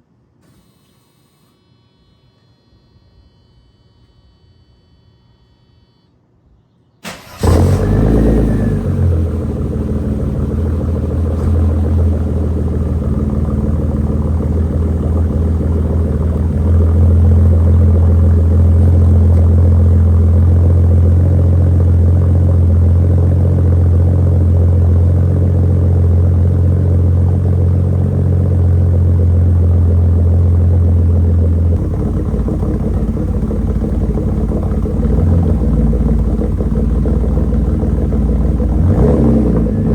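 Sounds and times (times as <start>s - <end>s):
car exhaust deep drone: 7.4s - 39.9s.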